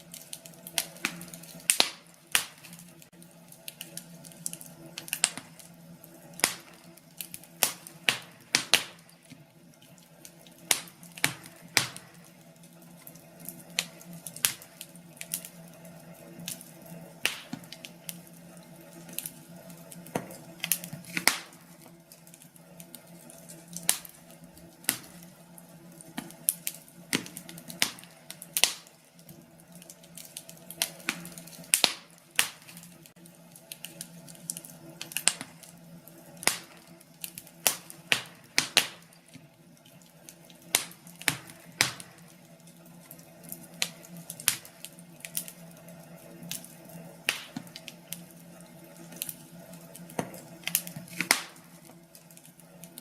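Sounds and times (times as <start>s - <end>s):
faint steady hum: 0.0s - 53.0s
wood fire crackling and popping: 0.0s - 53.0s.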